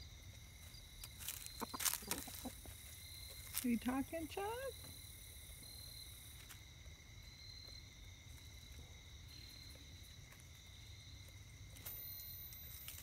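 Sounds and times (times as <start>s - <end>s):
insect chirring trill: 0.0s - 13.0s.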